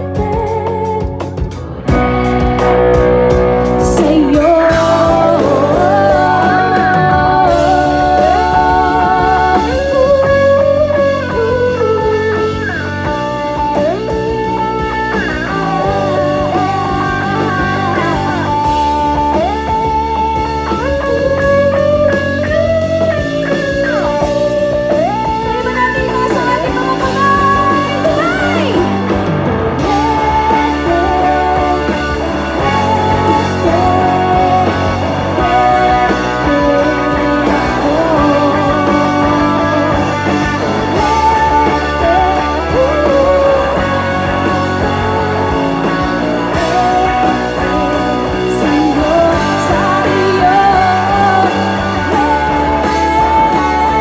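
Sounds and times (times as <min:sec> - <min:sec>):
bass guitar: 0:00.0 - 0:54.0
bending lead guitar melody: 0:00.0 - 0:54.0
drum kit: 0:00.0 - 0:54.0
electric guitars: 0:00.0 - 0:54.0.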